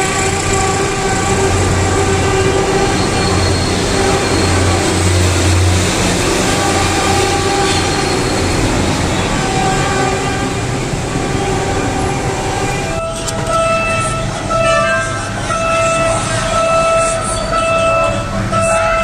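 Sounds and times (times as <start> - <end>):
diesel train engine drone: 0.0 - 19.0
rail noise: 0.0 - 19.0.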